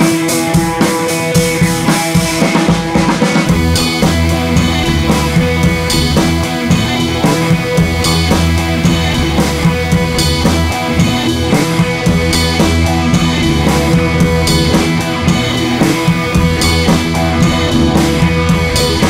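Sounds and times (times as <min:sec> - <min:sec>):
rock music with drums and guitar: 0:00.0 - 0:19.0.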